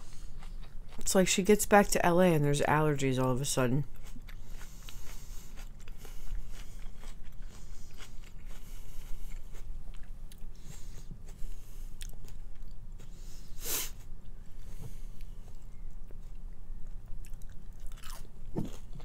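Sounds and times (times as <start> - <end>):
close chewing with crunches: 0.0 - 1.6, 3.2 - 19.0.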